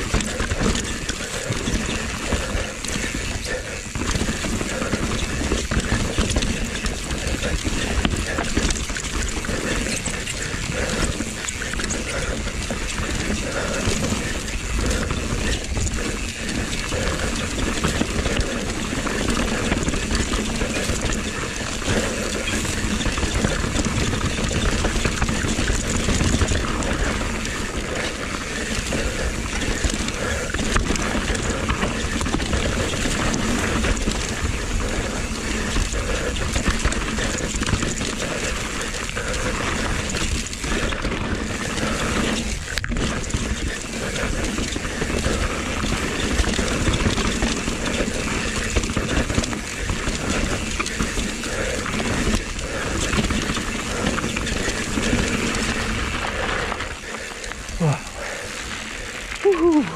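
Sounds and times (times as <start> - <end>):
bike rattling: 0.0 - 59.9
bike tyres on dirt: 0.0 - 59.9.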